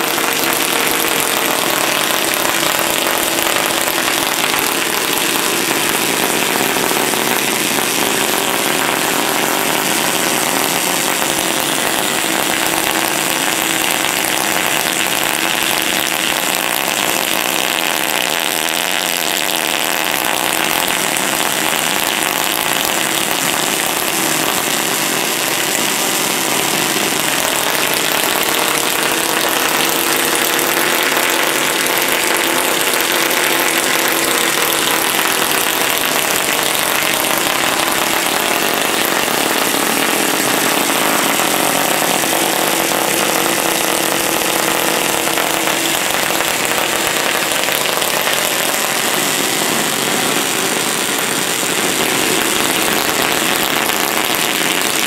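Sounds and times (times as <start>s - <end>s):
high-voltage sparks crackling and buzzing: 0.0s - 55.0s.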